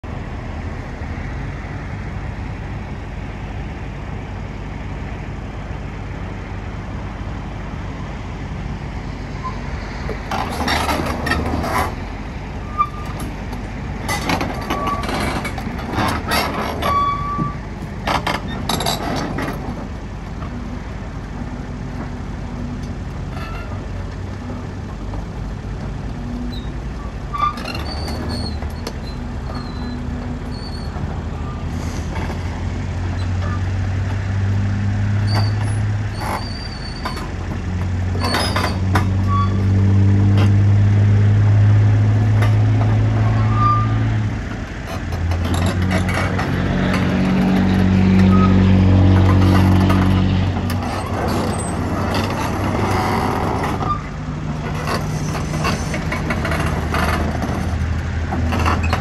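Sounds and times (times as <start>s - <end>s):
heavy vehicle engines running: 0.0s - 59.0s.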